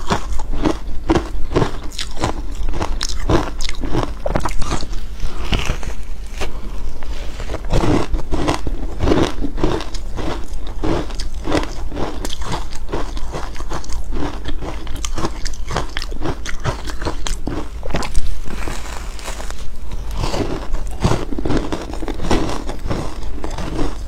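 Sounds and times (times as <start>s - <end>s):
person crunching ice cubes: 0.0s - 24.0s.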